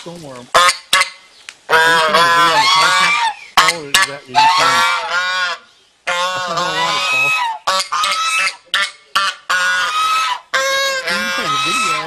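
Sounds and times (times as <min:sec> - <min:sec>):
geese honking: 0:00.5 - 0:12.0.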